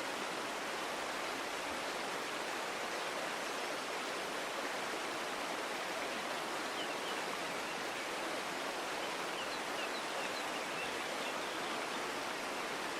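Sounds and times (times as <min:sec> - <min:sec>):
stream running: 0:00.0 - 0:12.9.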